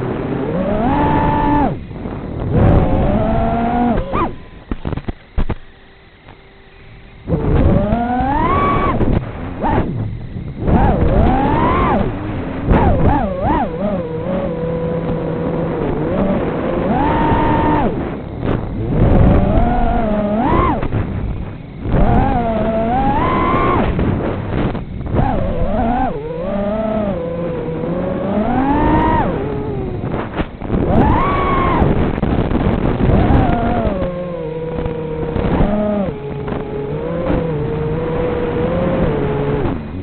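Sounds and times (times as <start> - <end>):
quadcopter motors whining: 0.0 - 40.0.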